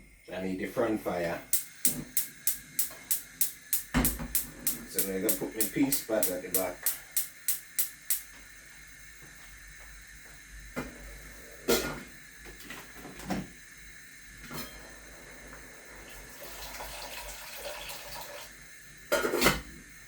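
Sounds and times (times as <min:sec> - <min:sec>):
faint hiss on stove: 0:00.0 - 0:20.0.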